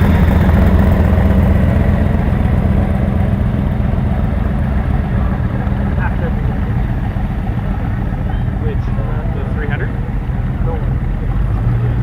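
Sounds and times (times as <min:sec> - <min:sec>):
car engine rumbling at low revs: 0:00.0 - 0:12.0.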